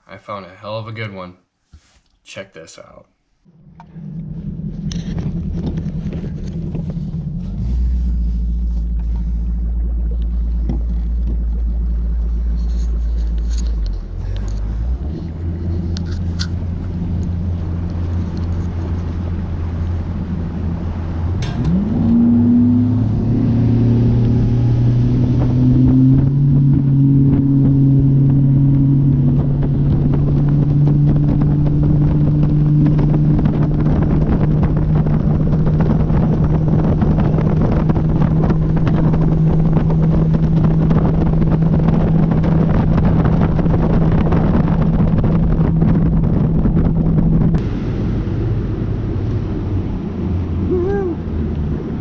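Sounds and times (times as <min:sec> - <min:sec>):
outboard motor running: 0:03.5 - 0:52.0.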